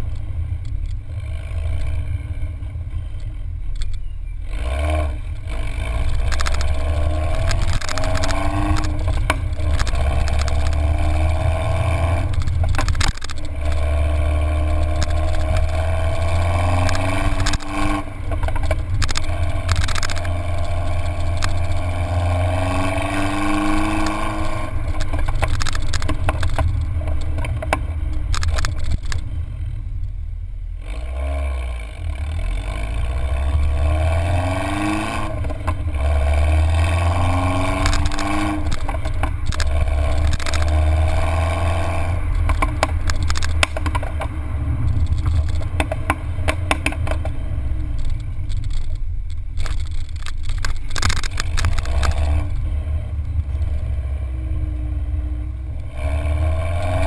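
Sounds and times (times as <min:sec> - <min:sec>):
car exhaust revving: 0:00.0 - 0:57.0
wind and road noise: 0:00.0 - 0:57.0.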